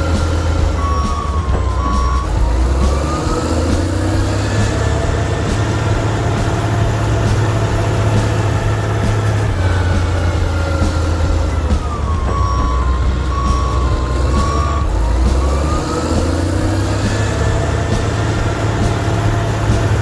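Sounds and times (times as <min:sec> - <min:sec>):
faint gliding whines: 0:00.0 - 0:20.0
heavy vehicle engine drone: 0:00.0 - 0:20.0.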